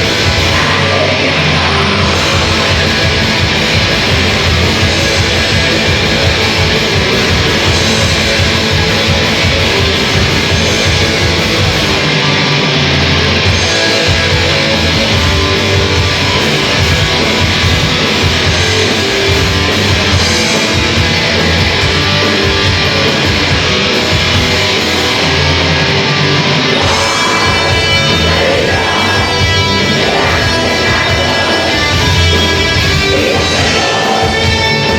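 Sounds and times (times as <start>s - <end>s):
heavy metal band playing: 0.0s - 34.9s.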